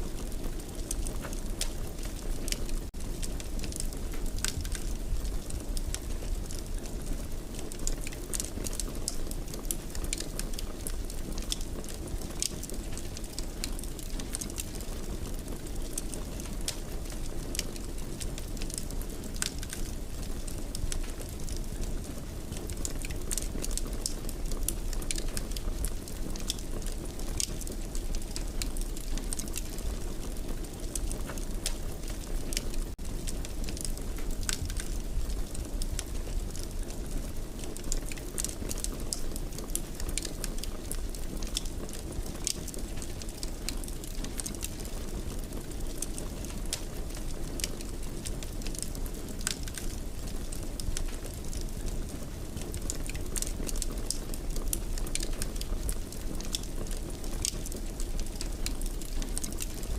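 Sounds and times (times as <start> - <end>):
fire crackling in a fireplace: 0.0 - 59.9.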